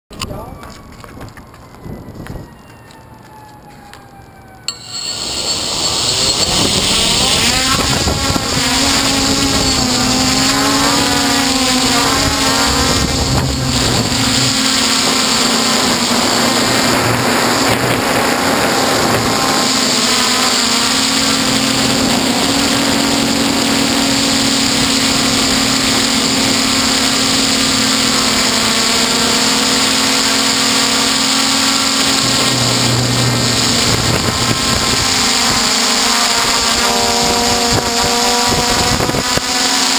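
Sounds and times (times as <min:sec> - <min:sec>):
drone propellers whirring: 0:03.5 - 0:39.9.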